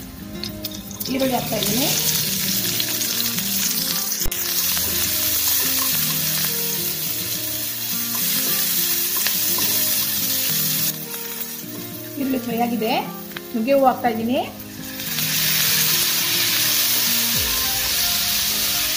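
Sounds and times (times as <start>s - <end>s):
vegetables sizzling in oil: 0.0s - 18.9s.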